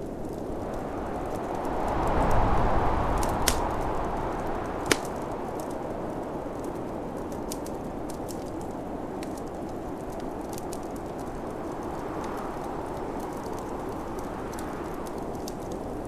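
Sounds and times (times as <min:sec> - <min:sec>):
fire popping: 0:00.0 - 0:16.0
snowstorm wind: 0:00.0 - 0:16.0
wood fire crackling: 0:00.0 - 0:16.0.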